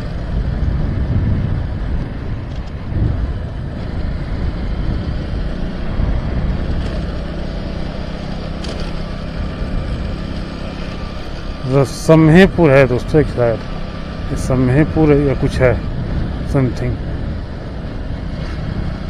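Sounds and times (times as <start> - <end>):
motorcycle engine running: 0.0 - 19.0
wind and road noise rumble: 0.0 - 19.0.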